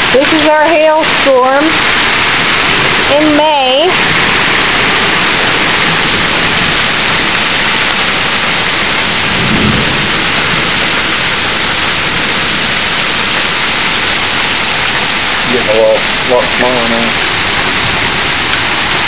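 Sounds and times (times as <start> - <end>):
hail and heavy rain: 0.0 - 19.0.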